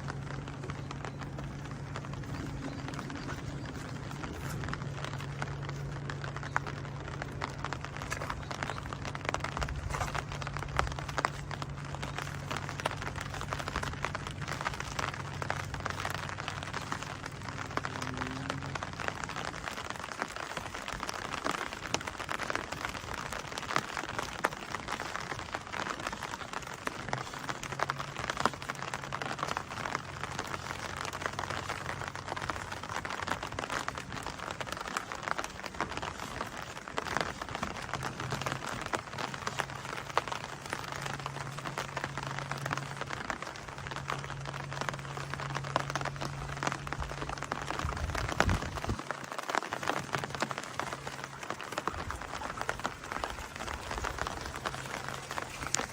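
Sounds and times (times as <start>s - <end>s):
low steady hum: 0.0s - 55.9s
steady rain falling: 0.0s - 55.9s.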